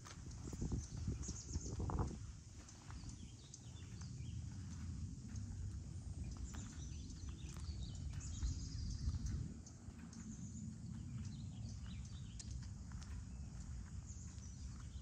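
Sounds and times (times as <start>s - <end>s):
birds chirping: 0.0s - 15.0s
footsteps on asphalt: 0.0s - 15.0s
low outdoor rumble: 0.0s - 15.0s.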